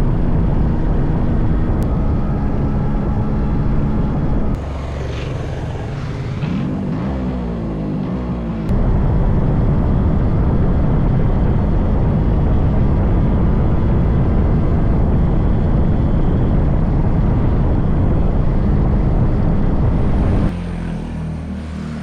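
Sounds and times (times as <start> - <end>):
wind rumble on microphone: 0.0 - 7.4, 8.6 - 20.6.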